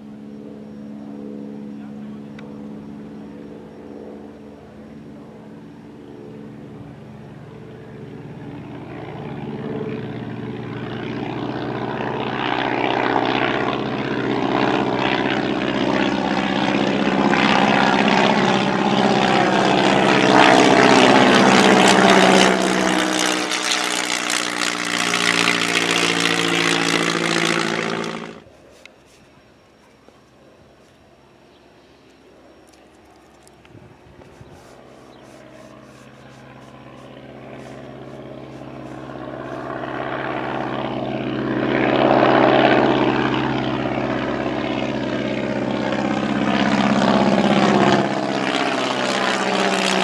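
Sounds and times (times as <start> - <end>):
propeller plane engine fly-by: 0.0 - 50.0.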